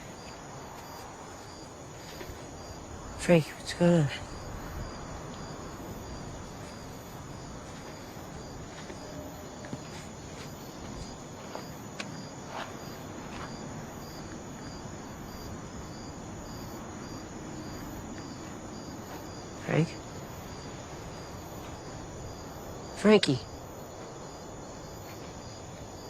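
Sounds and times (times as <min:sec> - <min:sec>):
crickets chirping: 0:00.0 - 0:26.0
low outdoor noise: 0:00.0 - 0:26.0.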